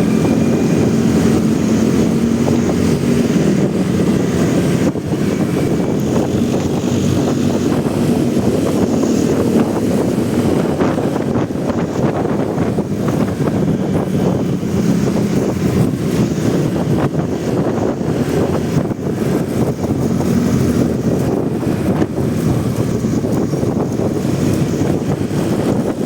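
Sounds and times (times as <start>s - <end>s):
motorcycle engine running: 0.0s - 26.0s
surrounding traffic: 0.0s - 26.0s
wind buffeting microphone: 0.0s - 26.0s.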